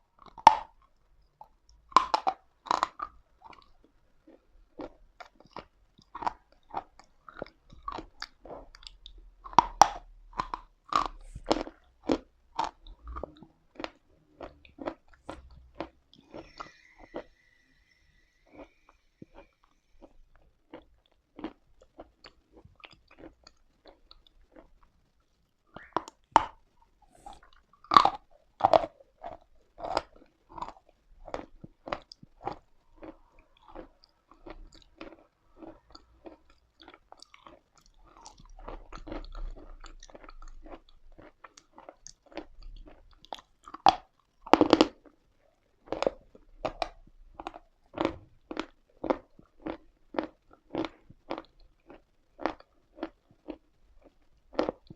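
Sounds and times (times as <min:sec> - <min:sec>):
person chewing chalk: 0:00.1 - 0:54.9.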